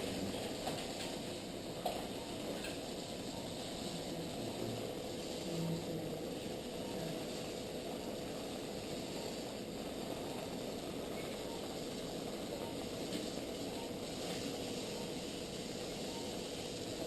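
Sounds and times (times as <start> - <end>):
equipment hum and hiss: 0.0 - 17.0
faint constant tone: 0.0 - 17.0.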